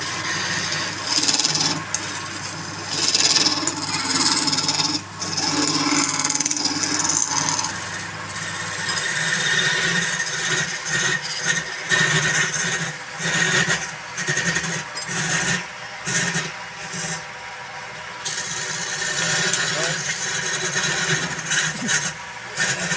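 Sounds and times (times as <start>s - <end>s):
tool scraping spinning wood: 0.0s - 22.9s
wood lathe low hum: 0.0s - 22.9s.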